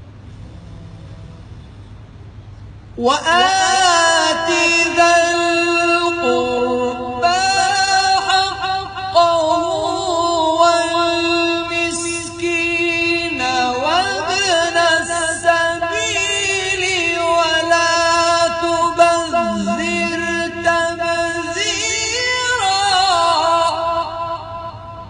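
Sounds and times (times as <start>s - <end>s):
man reciting melodically: 3.0s - 25.0s.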